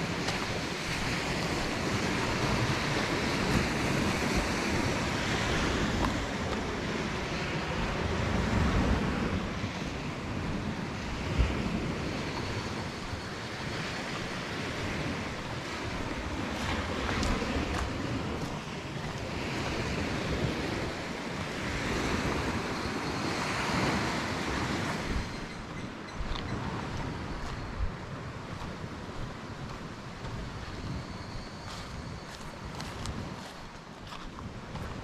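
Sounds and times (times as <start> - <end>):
small waves washing on shore: 0.0 - 35.0
wind buffeting microphone: 0.0 - 35.0.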